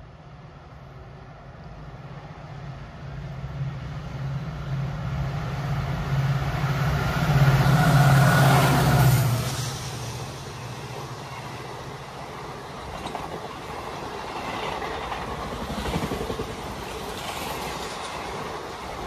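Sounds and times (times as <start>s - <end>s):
train rushing past: 2.2s - 19.0s.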